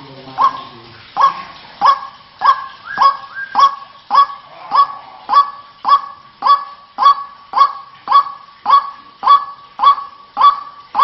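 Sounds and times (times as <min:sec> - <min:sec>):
waterhen calling short sharp notes: 0:00.4 - 0:11.0.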